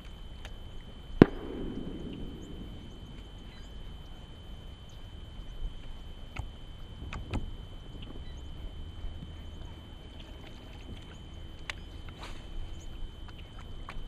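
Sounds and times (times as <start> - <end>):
thin high whine: 0.0 - 13.9
steady low rumble: 0.0 - 14.0.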